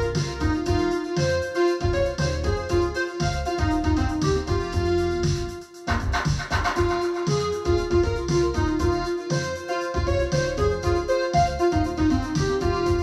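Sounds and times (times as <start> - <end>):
keyboard melody over deep bass: 0.0 - 13.0.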